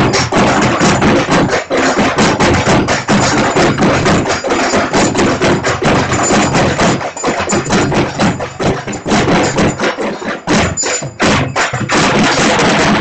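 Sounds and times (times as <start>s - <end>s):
fast loud drumming: 0.0s - 13.0s.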